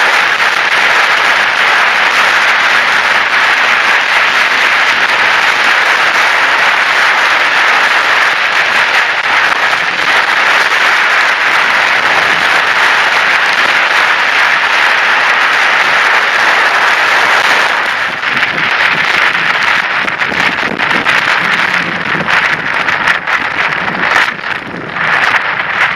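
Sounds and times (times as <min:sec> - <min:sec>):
rain on microphone: 0:00.0 - 0:25.9.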